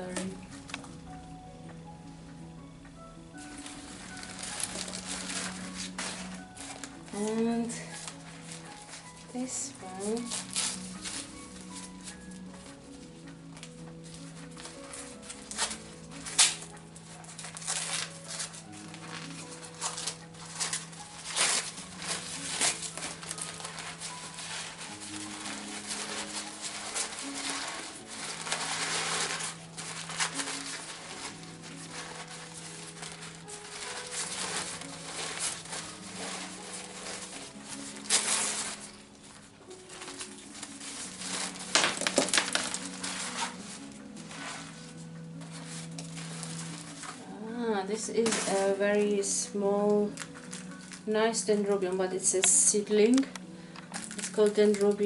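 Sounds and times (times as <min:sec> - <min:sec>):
packaging crinkling and rustling: 0:00.0 - 0:55.0
soft background music: 0:00.0 - 0:55.0.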